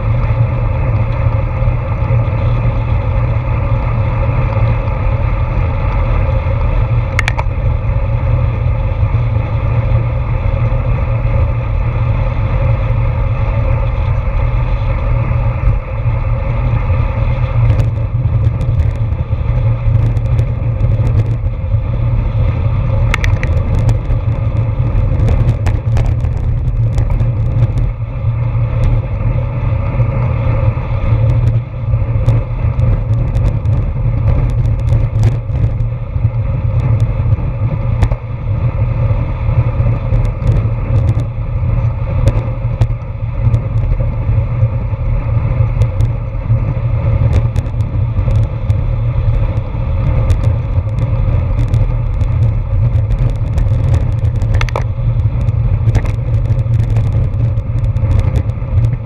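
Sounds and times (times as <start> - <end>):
bicycle clicks and rattles: 0.0 - 59.0
road and tyre noise: 0.0 - 59.0
wind rumble on microphone: 0.0 - 59.0.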